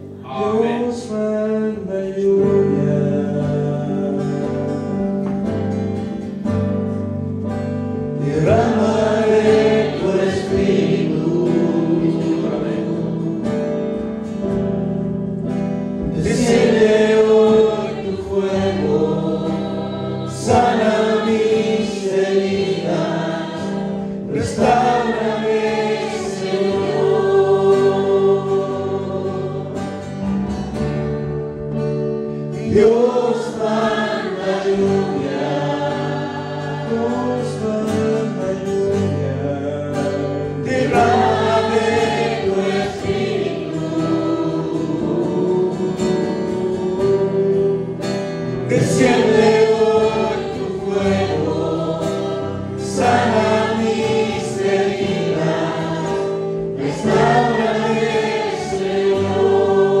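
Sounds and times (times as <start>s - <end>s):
choir singing worship song: 0.0s - 60.0s
instrumental accompaniment: 2.5s - 60.0s.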